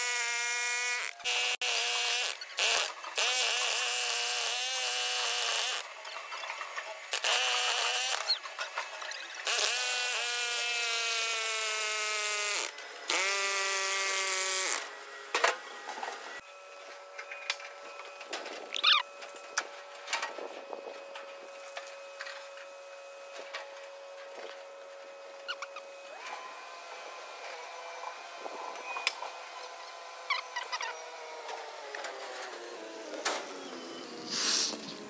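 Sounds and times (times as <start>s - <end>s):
electric power tool running: 0.0s - 6.0s, 7.0s - 35.0s.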